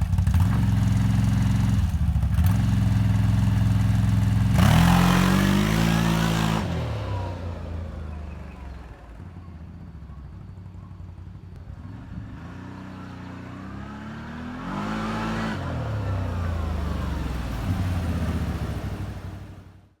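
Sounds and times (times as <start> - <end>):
atv engine revving: 0.0 - 19.8.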